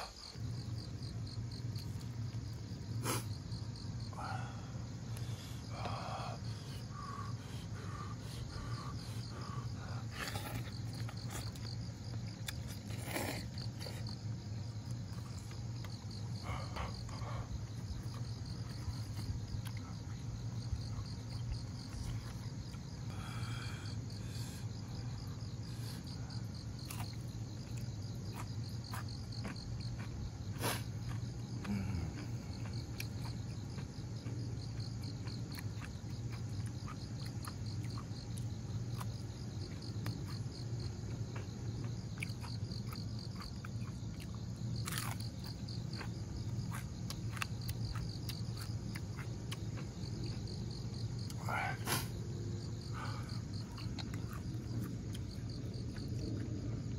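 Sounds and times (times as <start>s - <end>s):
crickets chirping: 0.0s - 56.9s
steady low hum: 0.0s - 56.9s.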